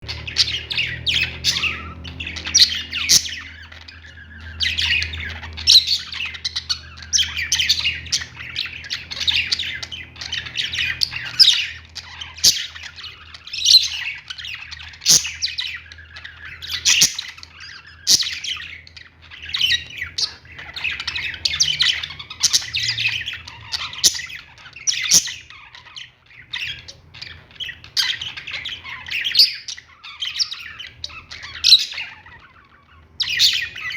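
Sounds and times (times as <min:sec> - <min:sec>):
parrots chirping and squawking: 0:00.0 - 0:33.9.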